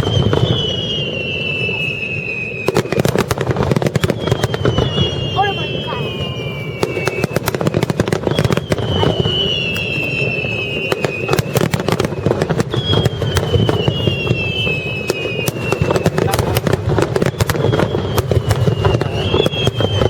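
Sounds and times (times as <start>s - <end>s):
descending firework whistles: 0.0s - 20.0s
fireworks crackling and bangs: 0.0s - 20.0s.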